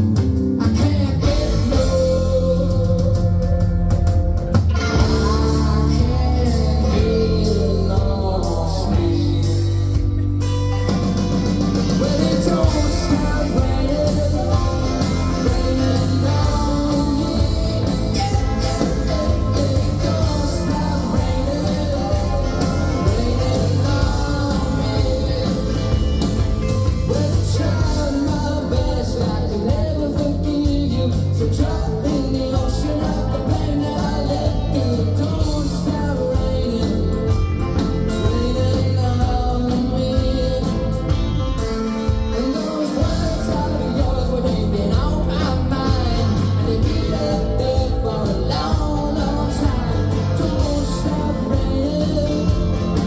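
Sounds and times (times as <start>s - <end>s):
person singing lead vocal: 0.0s - 3.9s, 4.8s - 53.0s
live rock band playing: 0.0s - 53.0s.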